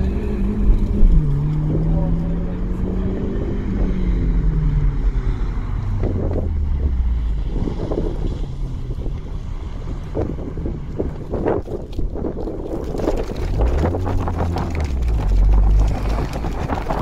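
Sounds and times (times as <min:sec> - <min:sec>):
car engine accelerating: 0:00.0 - 0:11.6, 0:12.8 - 0:17.0.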